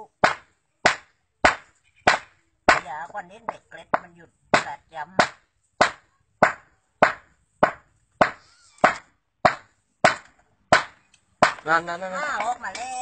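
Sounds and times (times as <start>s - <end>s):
hammer striking stone: 0.2s - 2.9s, 3.5s - 11.7s.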